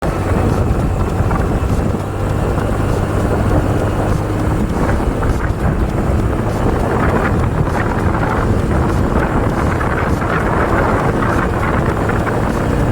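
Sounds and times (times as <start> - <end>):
motorcycle engine running: 0.0 - 12.9
wind buffeting microphone: 0.0 - 12.9.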